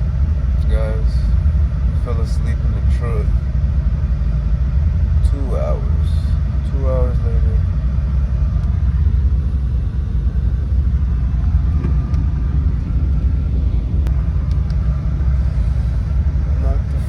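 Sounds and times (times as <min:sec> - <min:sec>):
air conditioning running: 0:00.0 - 0:17.0
truck engine idling: 0:00.0 - 0:17.0.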